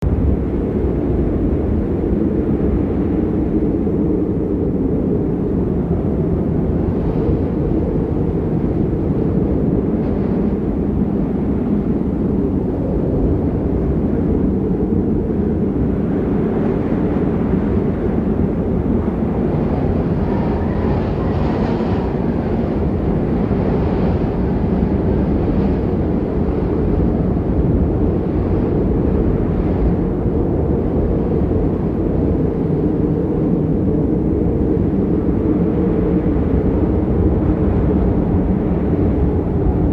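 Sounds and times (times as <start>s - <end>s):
storm wind buffeting microphone: 0.0s - 39.9s.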